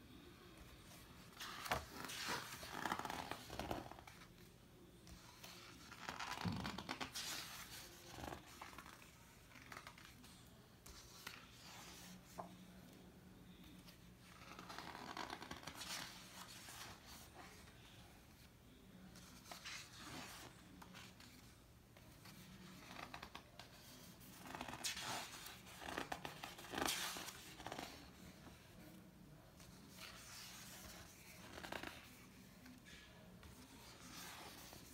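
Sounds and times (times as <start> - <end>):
book pages turning: 0.8 - 13.0, 13.6 - 34.9.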